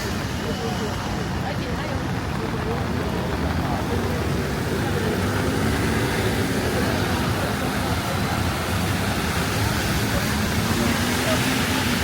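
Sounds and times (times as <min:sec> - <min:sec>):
heavy rain: 0:00.0 - 0:12.0
passing road traffic: 0:00.0 - 0:12.0
vehicle engine: 0:00.0 - 0:12.0.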